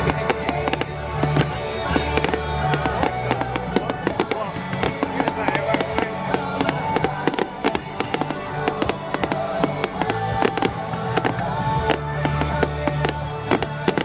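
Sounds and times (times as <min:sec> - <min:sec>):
fireworks cracking and banging: 0:00.0 - 0:14.0
music playing: 0:00.0 - 0:14.0.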